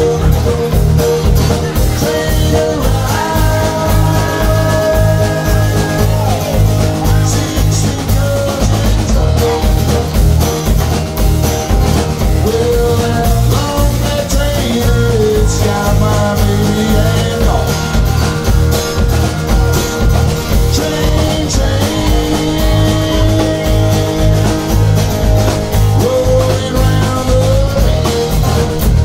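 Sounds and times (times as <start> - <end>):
acoustic guitar strumming: 0.0 - 29.0
drum kit beat: 0.0 - 29.0
electric guitar: 0.0 - 29.0.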